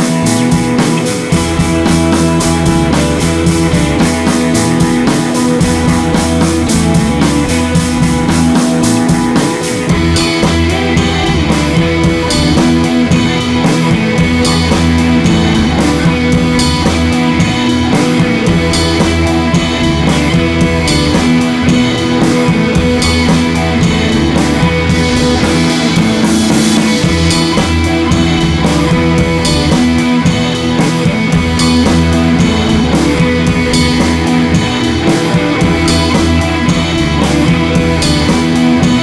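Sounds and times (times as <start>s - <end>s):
loud rock music through speakers: 0.0s - 39.0s.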